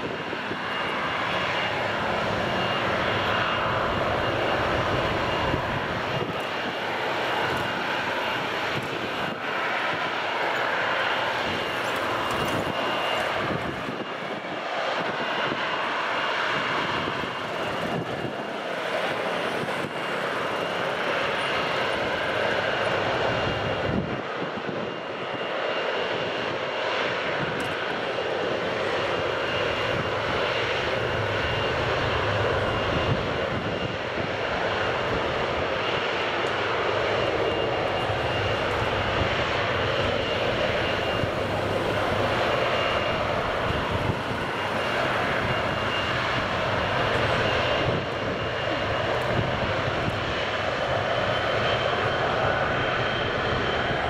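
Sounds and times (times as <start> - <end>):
high jet whine: 0.0 - 54.0
jet engines rumbling: 0.0 - 54.0.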